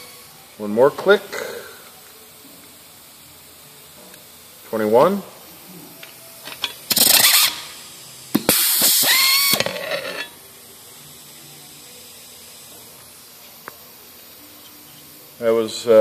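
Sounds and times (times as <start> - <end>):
air hiss with motor whine: 0.0 - 16.0.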